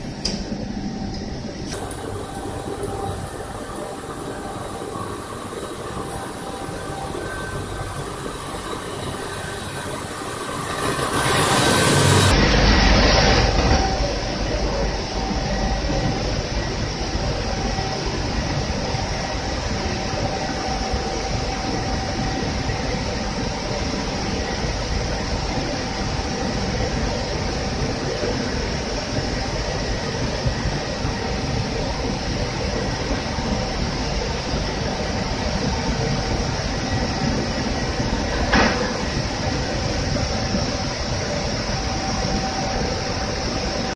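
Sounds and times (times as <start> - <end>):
machine fans and conveyor humming: 0.0 - 43.9.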